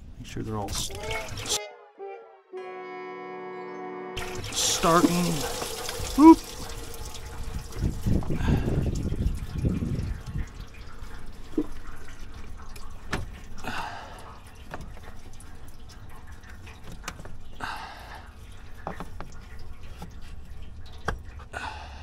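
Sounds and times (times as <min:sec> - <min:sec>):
coolant dripping and trickling: 0:00.2 - 0:01.6, 0:04.2 - 0:22.0.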